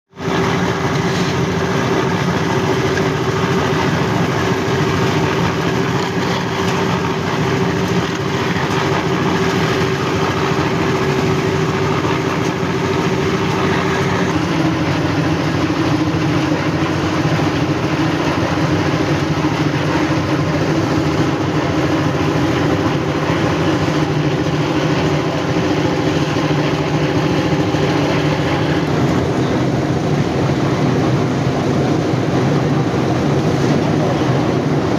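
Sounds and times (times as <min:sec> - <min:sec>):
heavy machinery engine running: 0:00.1 - 0:34.9.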